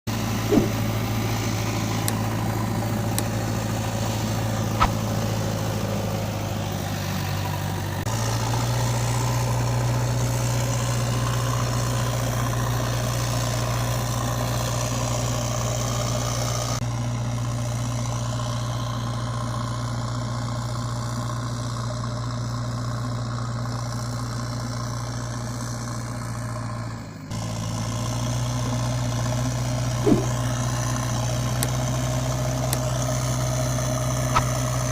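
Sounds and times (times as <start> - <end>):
low engine hum: 0.1 - 34.9.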